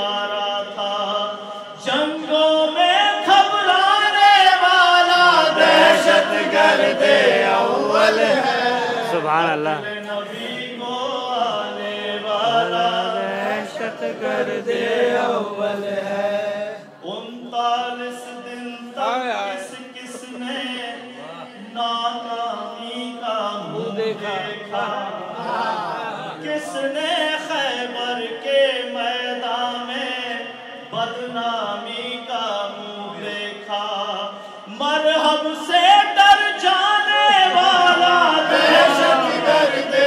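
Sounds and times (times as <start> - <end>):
man chanting into a microphone: 0.0 - 5.6, 8.2 - 14.4, 15.7 - 25.3, 26.2 - 40.0.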